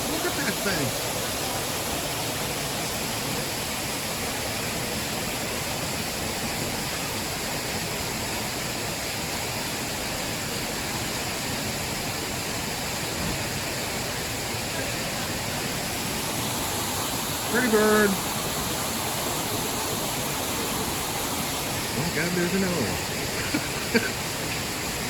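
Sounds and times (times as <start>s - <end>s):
small waterfall splashing: 0.0s - 25.0s.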